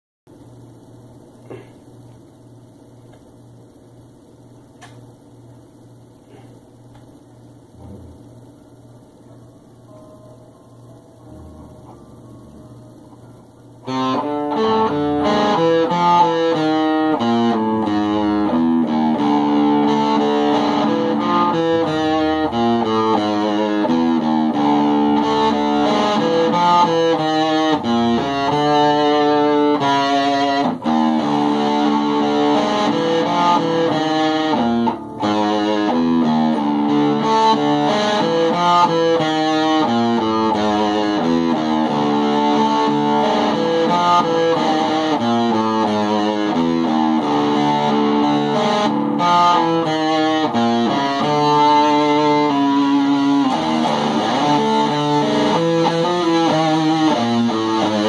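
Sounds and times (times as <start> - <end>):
low amplifier hum: 0.3 - 58.0
distorted electric guitar riff: 7.6 - 58.0.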